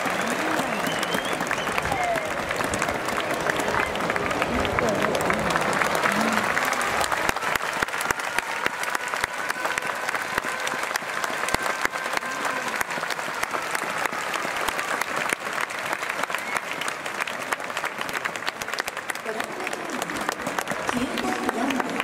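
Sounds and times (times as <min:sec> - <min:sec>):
faint voices: 0:00.0 - 0:15.0, 0:18.6 - 0:22.0
crowd applauding: 0:00.0 - 0:22.0
sharp close hand claps: 0:00.0 - 0:22.0.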